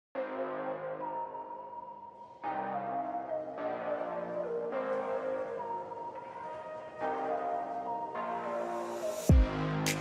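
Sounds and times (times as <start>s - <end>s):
background music sustained notes: 0.2s - 10.0s.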